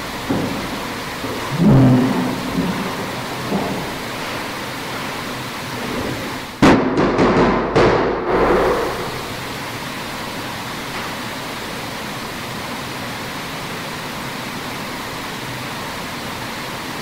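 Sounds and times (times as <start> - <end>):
steady hiss: 0.0 - 6.6, 8.1 - 17.0.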